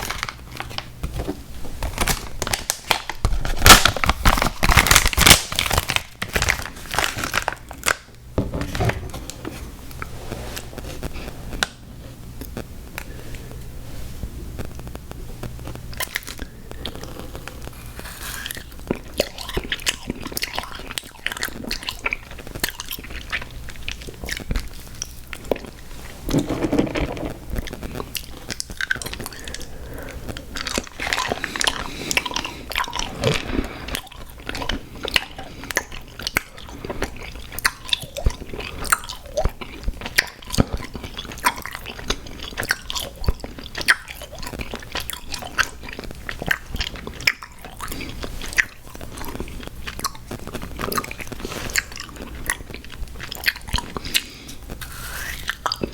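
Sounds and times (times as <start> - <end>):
chewing and crunching cereal: 0.0 - 8.2, 15.6 - 55.9.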